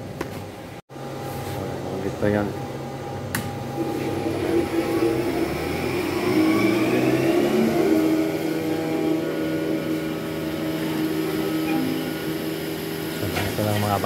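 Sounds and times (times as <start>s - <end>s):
milking machinery humming: 1.0s - 14.0s.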